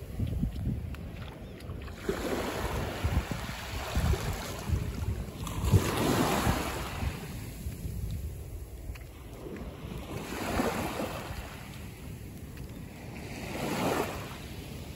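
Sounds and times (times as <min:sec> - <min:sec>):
small waves on sandy shore: 0:00.0 - 0:14.9
wind buffeting microphone: 0:00.0 - 0:14.9.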